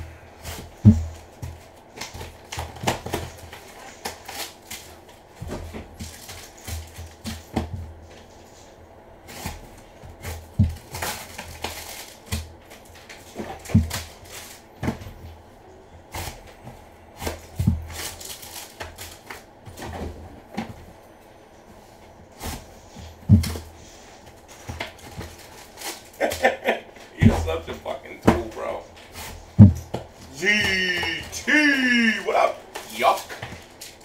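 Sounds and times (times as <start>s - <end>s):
foil card packs rustling: 0.4s - 15.2s, 17.2s - 20.2s, 22.5s - 34.0s.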